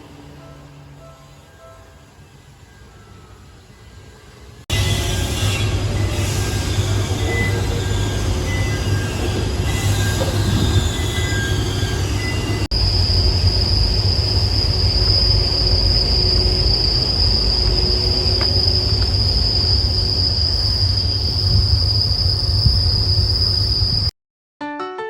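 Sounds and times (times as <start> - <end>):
train wheels rumbling on rails: 3.1 - 24.1.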